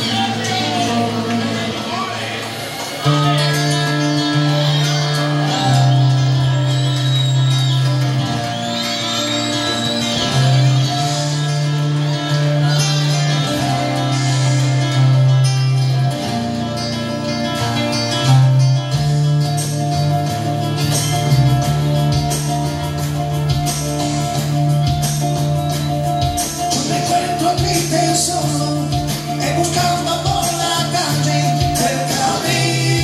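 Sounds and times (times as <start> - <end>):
guitar music with light percussion: 0.0 - 33.0.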